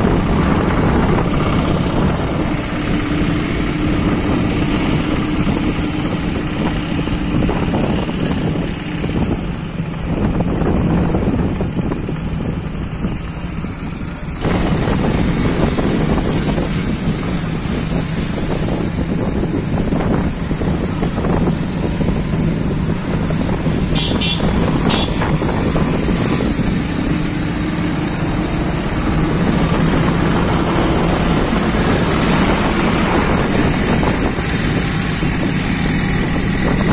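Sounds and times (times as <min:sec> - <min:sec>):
vehicle engine running: 0:00.0 - 0:36.9
wind noise on microphone: 0:00.0 - 0:36.9.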